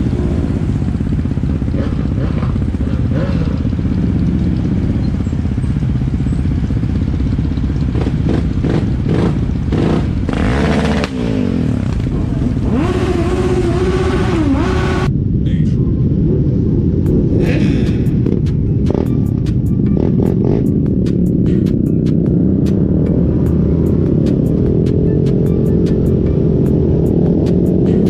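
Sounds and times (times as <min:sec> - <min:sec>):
motorcycle engines idling and revving: 0:00.0 - 0:28.0.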